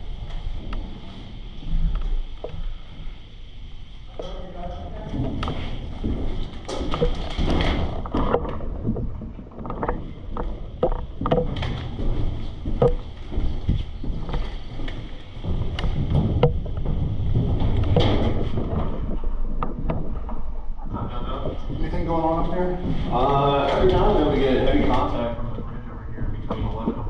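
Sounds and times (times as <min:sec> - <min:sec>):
wind rumble on microphone: 0:00.0 - 0:27.0
rustling and knocks: 0:04.1 - 0:27.0.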